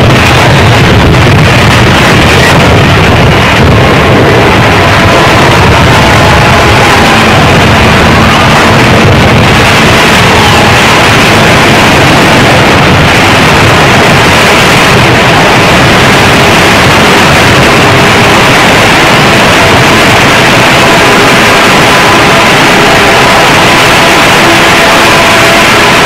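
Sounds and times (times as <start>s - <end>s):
rushing water and wind: 0.0s - 26.0s.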